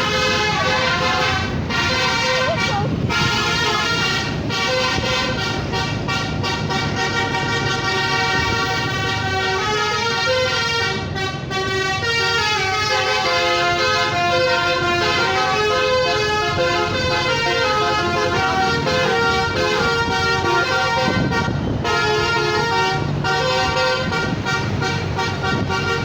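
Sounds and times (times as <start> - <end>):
musical air horn playing a tune: 0.0 - 26.0.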